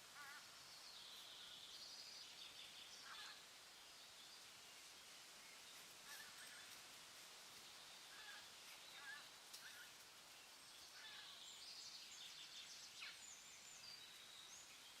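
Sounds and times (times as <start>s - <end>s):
bird calls and trills: 0.0s - 15.0s
steady background hiss: 0.0s - 15.0s.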